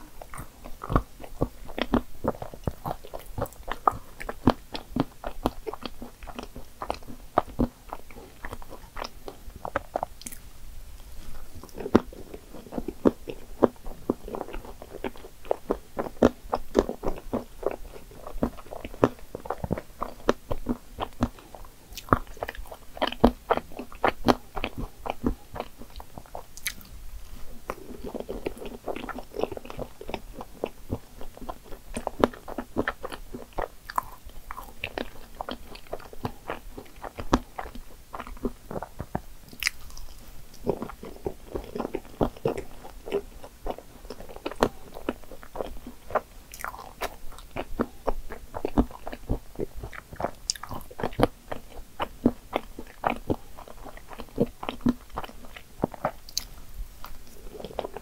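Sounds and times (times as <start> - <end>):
food crunching: 0.0 - 10.4, 11.0 - 58.0
mouth chewing clicks and smacks: 0.0 - 10.5, 11.5 - 58.0.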